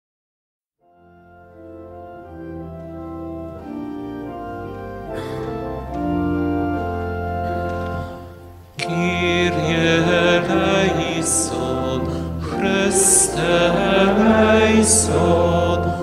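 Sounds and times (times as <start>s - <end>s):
organ playing sustained chords: 0.8s - 16.0s.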